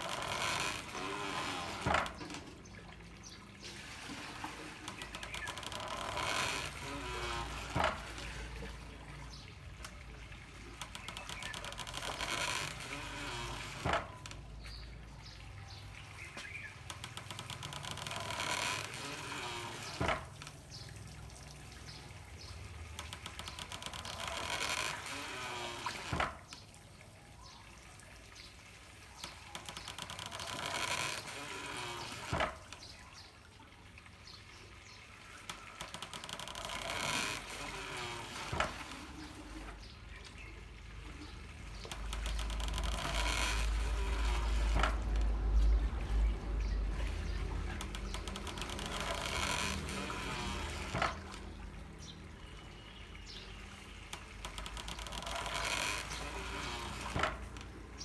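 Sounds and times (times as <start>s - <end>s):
water trickling through pipes: 0.0s - 58.0s.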